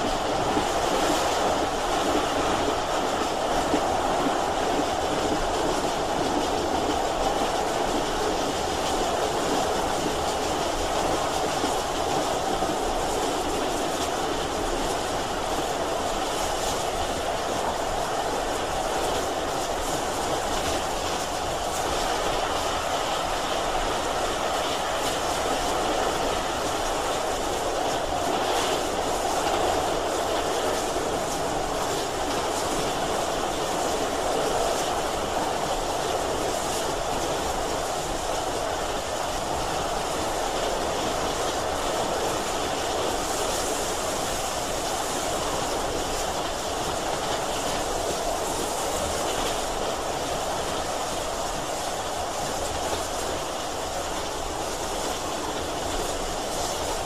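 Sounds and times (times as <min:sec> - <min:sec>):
train rolling on rails: 0:00.0 - 0:57.0.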